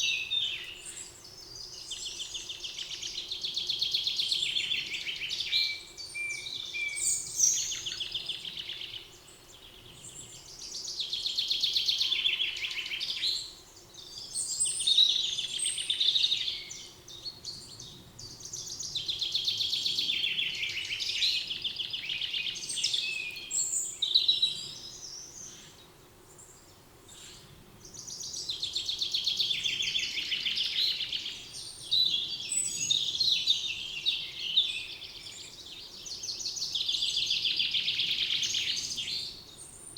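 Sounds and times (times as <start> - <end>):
songbirds trilling and warbling: 0.0 - 39.9.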